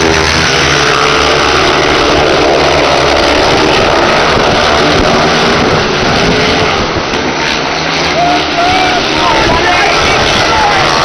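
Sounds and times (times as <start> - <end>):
motorcycle engines running loud: 0.0 - 11.0.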